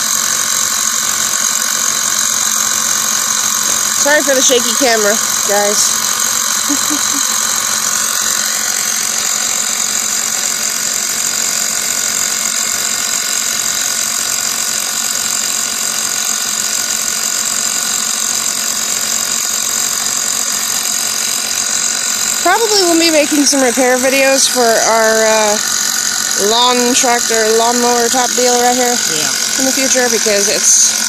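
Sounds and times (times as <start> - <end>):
air compressor humming with whine: 0.0 - 31.0.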